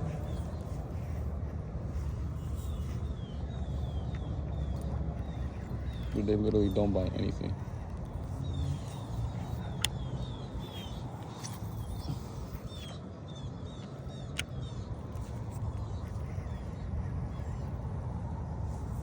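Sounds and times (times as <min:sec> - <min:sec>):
birds chirping: 0:00.0 - 0:19.0
wind rumbling on microphone: 0:00.0 - 0:19.0.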